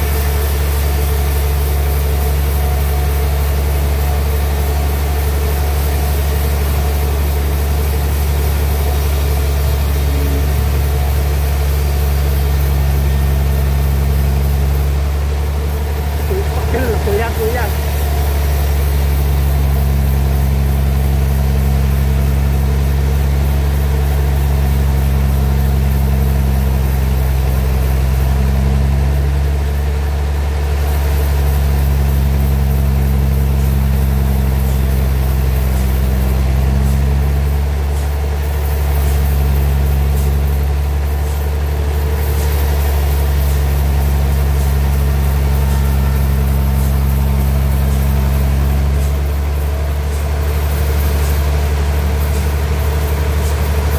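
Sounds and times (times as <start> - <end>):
sawmill engine running: 0.0 - 53.9.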